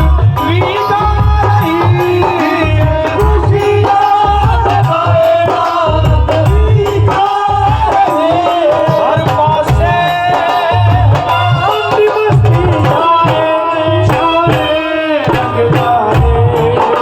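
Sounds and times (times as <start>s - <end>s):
hand drums beating: 0.0s - 17.0s
person singing devotional song: 0.0s - 17.0s.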